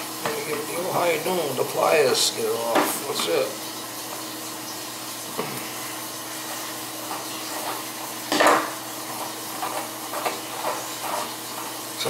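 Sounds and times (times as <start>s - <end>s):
faucet running: 0.0s - 12.0s.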